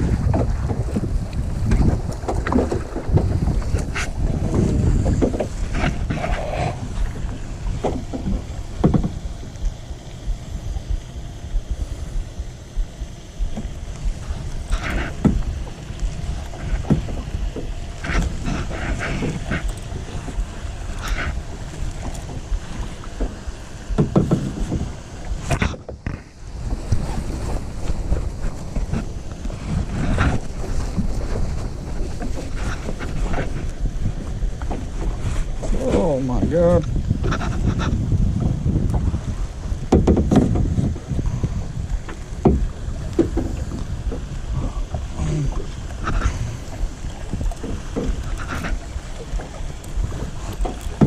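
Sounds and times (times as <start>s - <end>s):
paddle strokes splashing in water: 0.0s - 51.0s
wind rumble on microphone: 0.0s - 51.0s.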